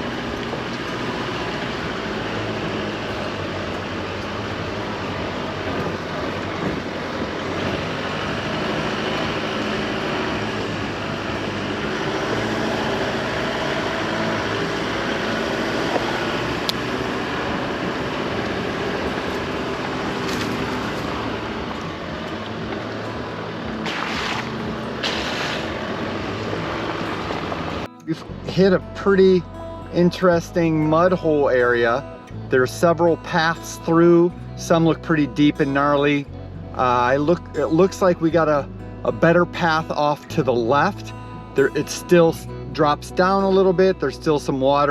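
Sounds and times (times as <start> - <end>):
pickup engine and tyre noise: 0.0 - 44.9.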